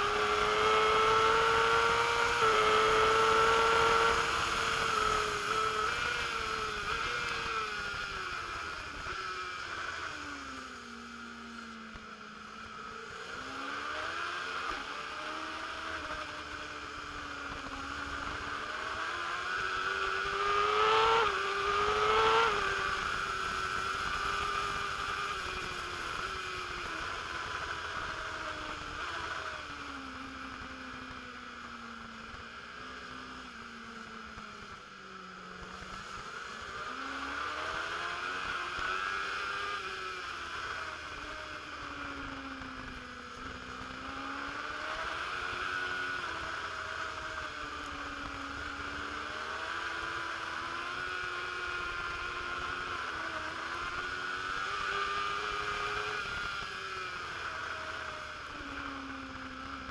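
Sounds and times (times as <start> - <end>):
racing motorcycle engine revving: 0.0 - 59.9.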